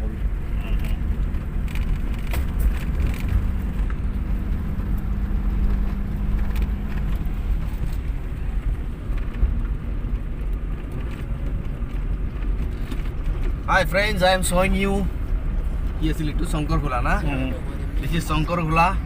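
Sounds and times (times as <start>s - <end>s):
low rumble: 0.0s - 18.2s.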